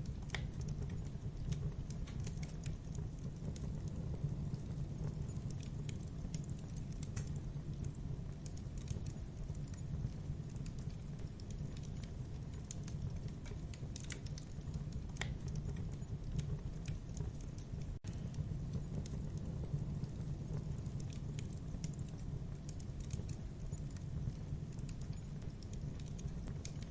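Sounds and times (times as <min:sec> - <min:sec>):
burning wood crackling: 0:00.0 - 0:26.9
campfire flames rumbling: 0:00.0 - 0:26.9.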